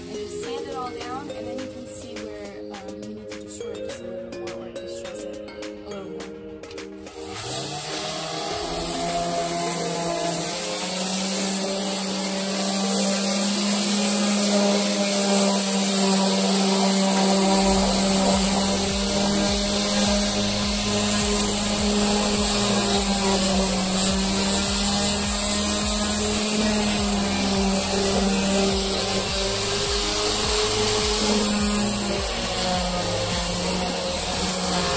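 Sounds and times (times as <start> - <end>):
orbital sander sanding wood: 0.0 - 4.0, 6.7 - 34.9.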